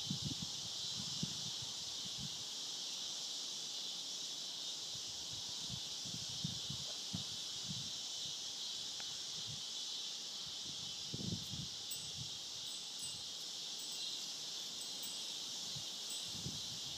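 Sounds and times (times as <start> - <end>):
insect chorus drone: 0.0 - 16.9.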